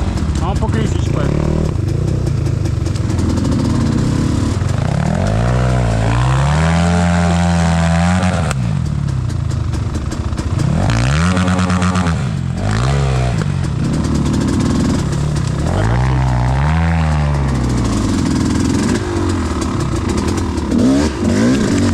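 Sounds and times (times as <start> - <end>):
motorcycle engine revving hard: 0.0 - 21.9.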